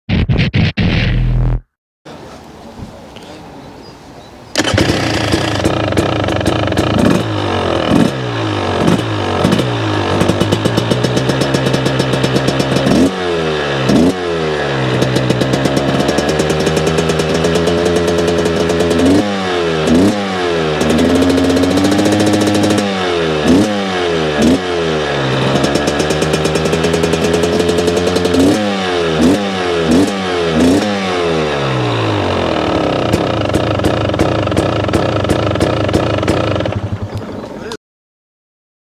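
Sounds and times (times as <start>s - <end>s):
two-stroke motorcycle engine revving: 4.6s - 37.6s.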